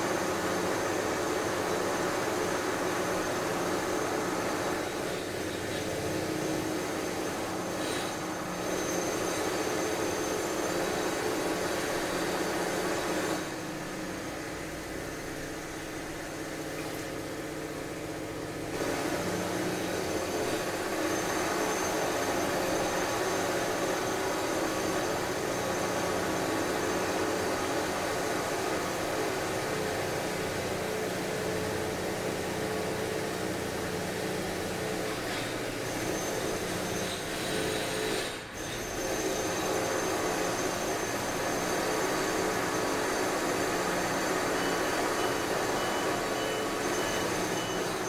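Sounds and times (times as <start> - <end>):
construction machinery running: 0.0 - 48.0.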